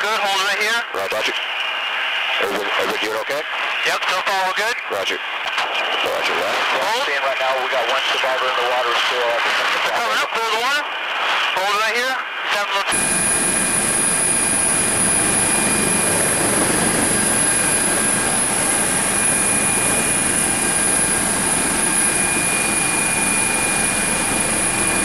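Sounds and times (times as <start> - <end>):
helicopter engine and rotors: 0.0 - 25.0.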